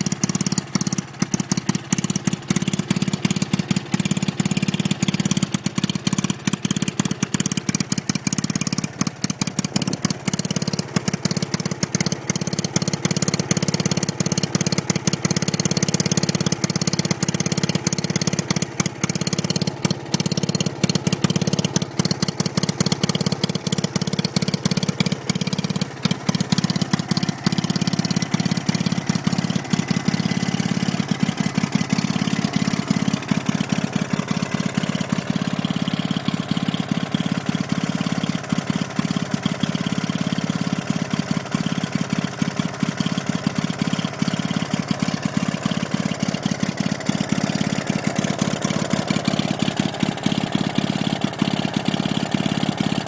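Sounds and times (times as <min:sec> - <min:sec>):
two-stroke engine running: 0:00.0 - 0:53.0.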